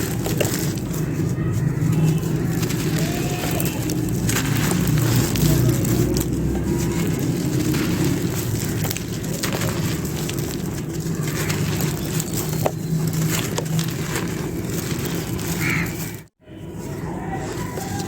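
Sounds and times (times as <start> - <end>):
dry clay crunching and crackling: 0.0 - 18.0.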